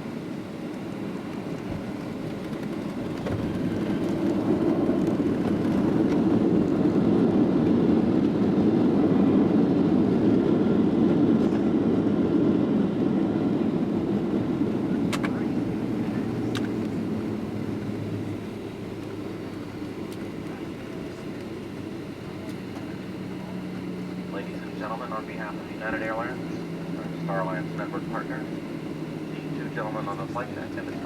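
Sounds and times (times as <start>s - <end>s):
aircraft cabin low roar: 0.0s - 31.0s.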